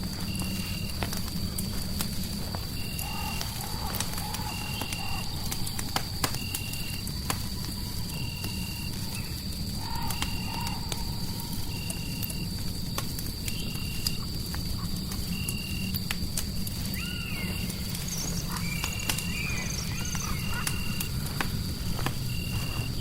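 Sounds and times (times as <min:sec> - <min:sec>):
fireplace crackling and popping: 0:00.0 - 0:23.0.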